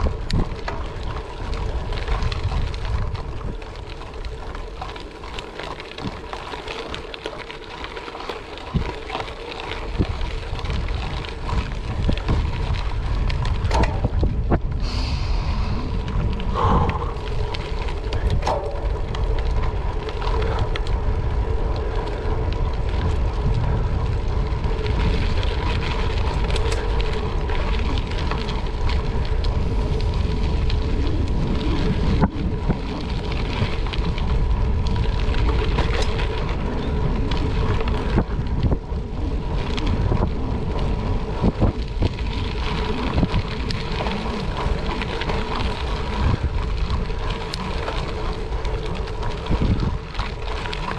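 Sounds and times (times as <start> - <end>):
tyres crunching on gravel: 0.0 - 50.9
wind rumbling on microphone: 0.0 - 50.9.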